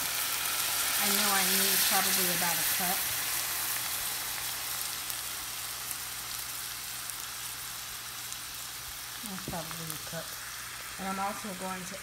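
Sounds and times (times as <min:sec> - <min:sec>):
cream sizzling in skillet: 0:00.0 - 0:12.0.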